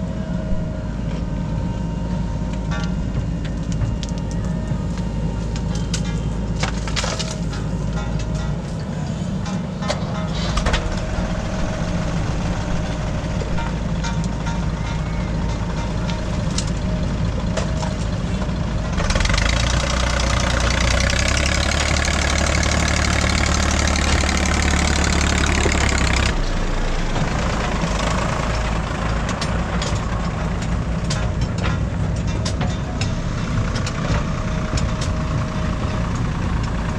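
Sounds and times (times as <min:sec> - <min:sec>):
diesel engines running: 0:00.0 - 0:36.9.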